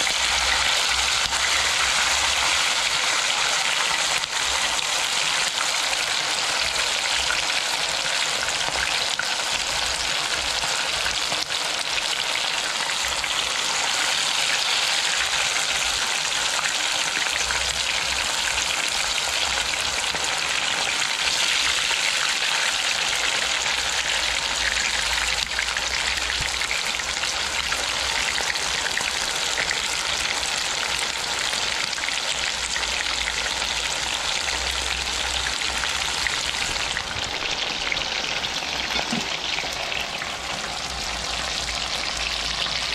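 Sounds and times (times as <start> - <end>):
chicken frying in oil: 0.0 - 42.9.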